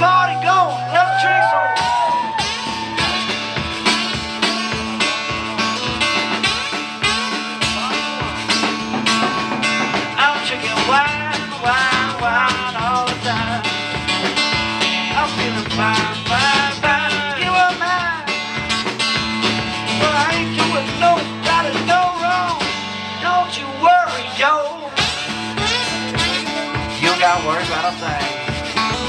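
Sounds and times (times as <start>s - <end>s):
acoustic guitar blues: 0.0s - 29.0s
drum kit: 0.0s - 29.0s.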